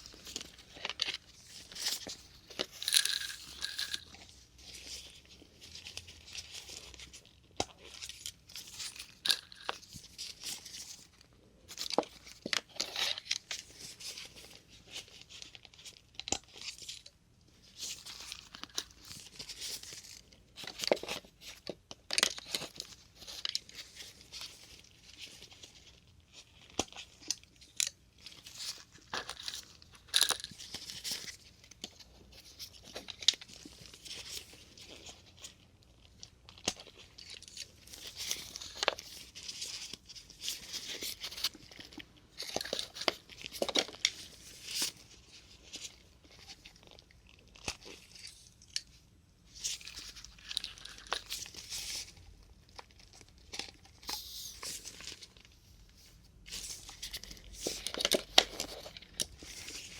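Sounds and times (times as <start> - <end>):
plastic handling rustles: 0.0 - 59.9.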